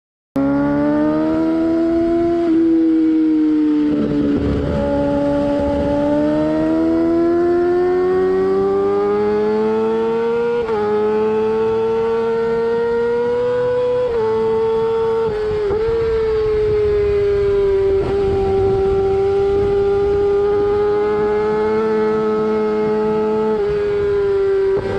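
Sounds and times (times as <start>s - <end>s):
motorcycle engine at high revs: 0.4s - 24.9s.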